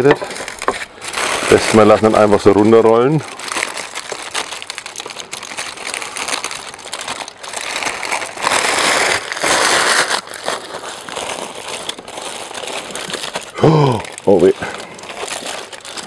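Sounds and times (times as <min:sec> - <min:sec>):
foil and baking paper crinkling: 0:00.0 - 0:16.0.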